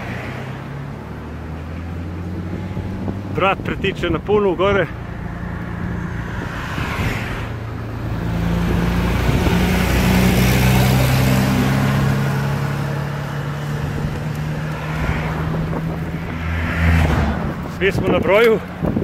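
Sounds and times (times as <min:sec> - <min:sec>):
road noise: 0:00.0 - 0:19.0
truck engine passing: 0:00.0 - 0:19.0
wind rush: 0:01.6 - 0:19.0.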